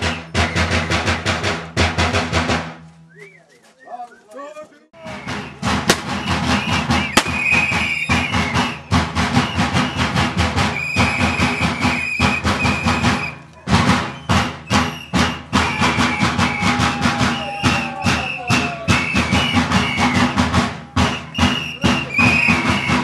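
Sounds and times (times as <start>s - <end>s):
shrill whistle: 0.0s - 1.2s, 3.1s - 4.1s, 5.0s - 23.0s
fast folk drumming: 0.0s - 2.8s, 5.0s - 23.0s.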